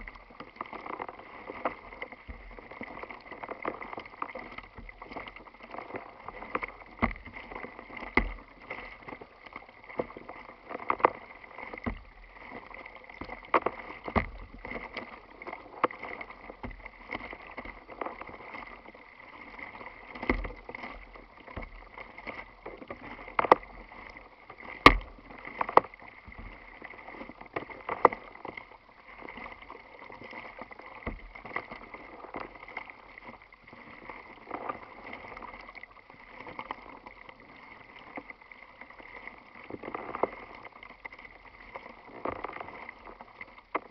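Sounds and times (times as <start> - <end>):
water slapping against kayak hull: 0.0 - 43.9.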